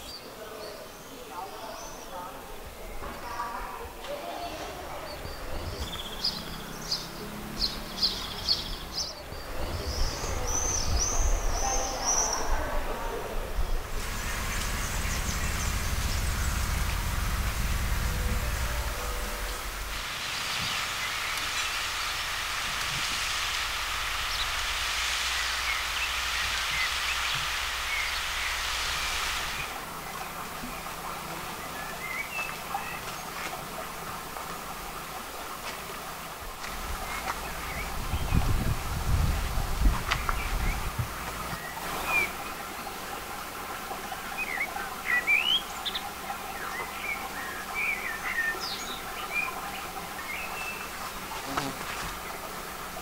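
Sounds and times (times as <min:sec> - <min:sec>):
small birds chirping: 0:00.0 - 0:12.6, 0:13.6 - 0:33.8, 0:36.7 - 0:53.0
flowing water hiss: 0:00.0 - 0:53.0.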